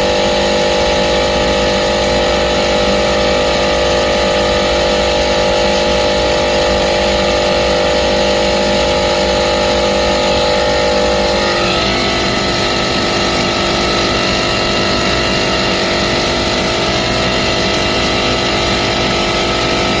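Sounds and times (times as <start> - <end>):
air conditioner compressor running: 0.0 - 20.0.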